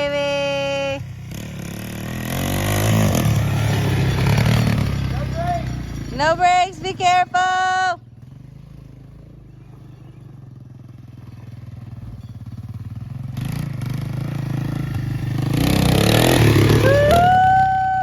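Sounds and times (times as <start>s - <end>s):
three-wheeler engine approaching: 0.0s - 18.0s.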